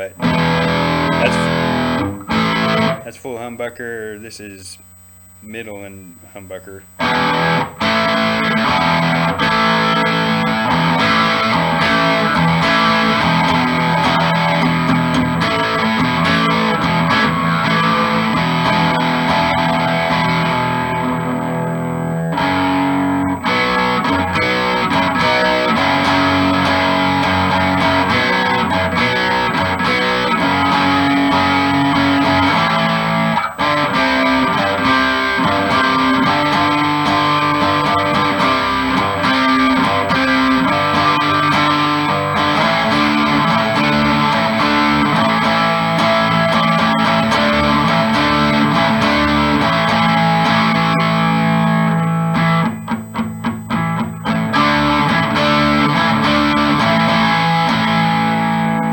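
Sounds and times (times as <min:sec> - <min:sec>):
electric guitar chords: 0:00.0 - 0:58.9.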